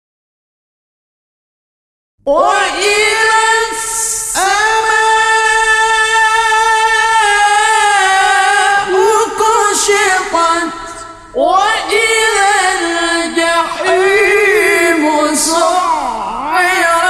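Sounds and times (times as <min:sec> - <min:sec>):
man reciting melodically: 0:02.3 - 0:17.0.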